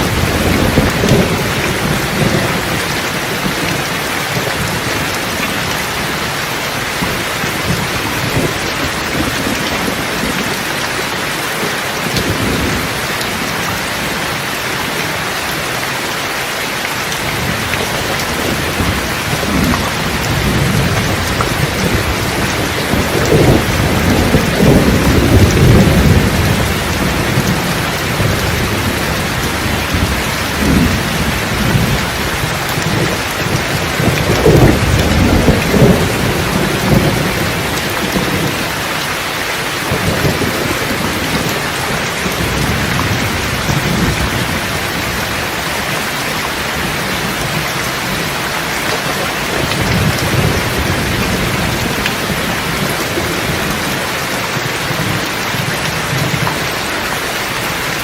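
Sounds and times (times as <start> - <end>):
thunder rumbling: 0.0 - 14.5, 17.1 - 58.0
heavy rain falling: 0.0 - 58.0.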